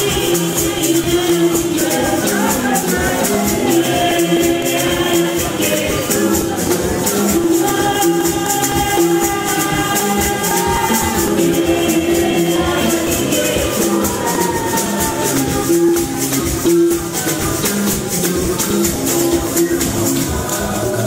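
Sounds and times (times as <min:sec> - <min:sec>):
rattling shaker rhythm: 0:00.0 - 0:21.0
voices singing: 0:00.0 - 0:21.0.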